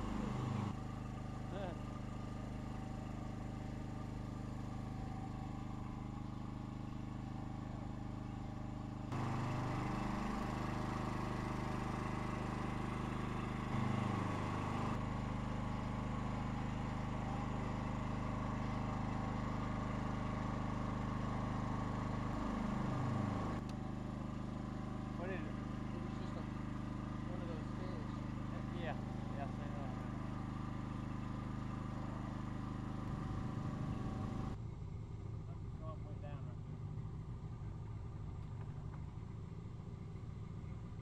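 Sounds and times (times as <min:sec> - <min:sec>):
small engine humming: 0:00.0 - 0:41.0.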